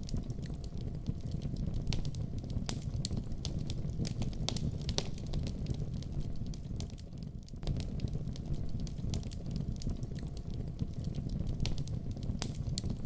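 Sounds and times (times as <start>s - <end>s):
fire crackles and pops: 0.0s - 13.0s
rumble of fire flames: 0.0s - 13.0s.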